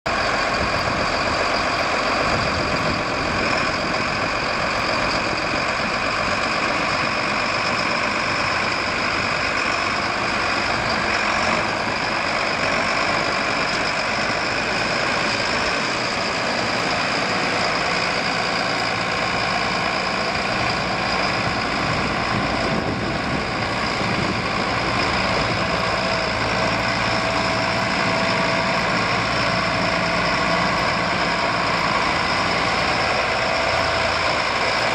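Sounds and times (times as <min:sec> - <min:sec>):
tractor diesel engine idling: 0:00.1 - 0:34.9.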